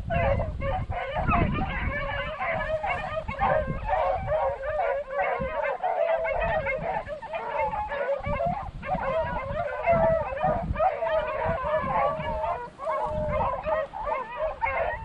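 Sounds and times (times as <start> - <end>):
hounds baying: 0.0 - 15.0
wind rumbling on microphone: 0.0 - 15.0.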